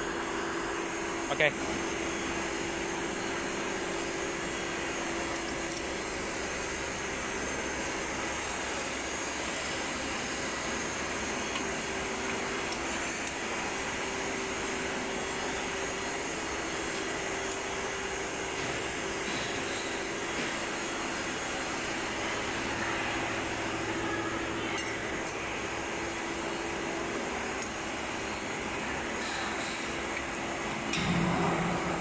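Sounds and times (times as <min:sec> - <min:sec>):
machine whoosh with low hum: 0:00.0 - 0:22.5, 0:25.4 - 0:32.0.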